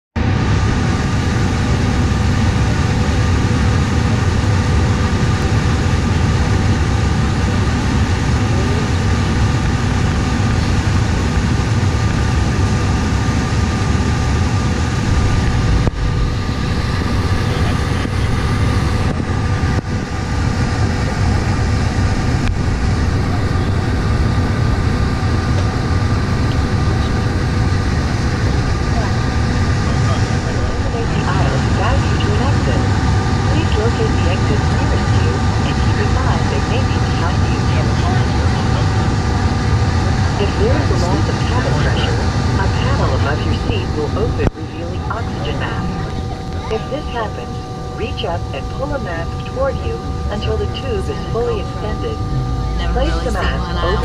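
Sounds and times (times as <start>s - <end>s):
jet engine whine and rumble: 0.2s - 54.0s.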